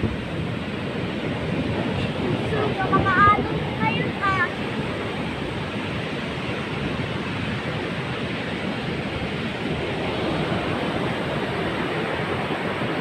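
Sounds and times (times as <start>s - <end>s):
heavy ocean surf: 0.0s - 13.0s.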